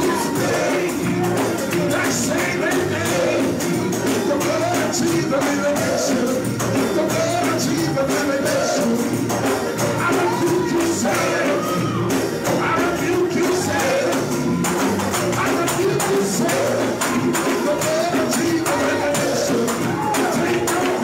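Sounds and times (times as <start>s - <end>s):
choir and congregation singing: 0.0s - 21.0s
tambourines shaken and struck: 0.0s - 21.0s.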